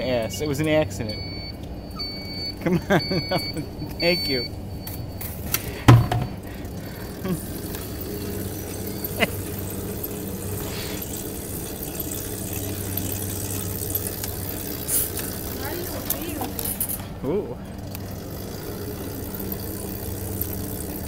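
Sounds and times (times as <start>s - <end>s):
electric motor humming: 3.3s - 21.0s.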